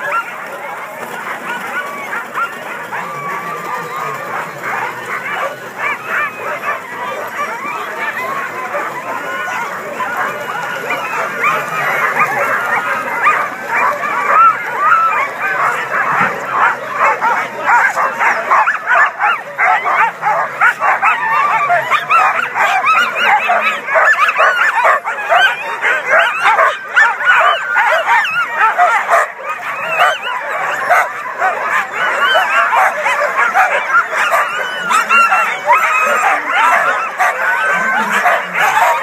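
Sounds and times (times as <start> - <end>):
dogs barking yipping and whining: 0.0 - 39.0.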